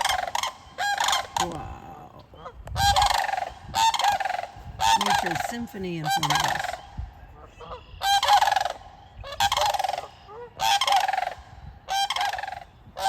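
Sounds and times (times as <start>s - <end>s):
cranes rattling bugle calls: 0.0s - 1.6s, 2.3s - 13.0s.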